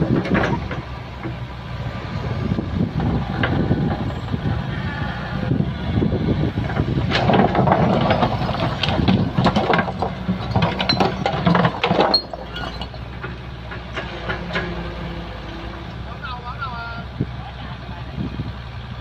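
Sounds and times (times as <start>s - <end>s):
excavator clanks and scrapes: 0.0s - 16.2s
diesel engine running: 0.0s - 19.0s.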